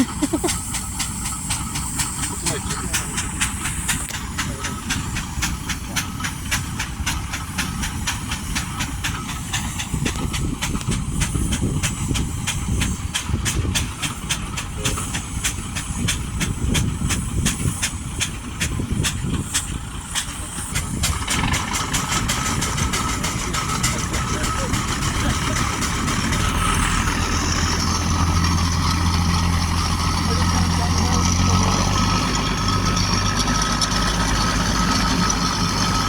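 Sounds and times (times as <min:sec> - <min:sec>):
steam engine exhaust chuffs: 0:00.0 - 0:36.0
steam hiss: 0:00.0 - 0:36.0.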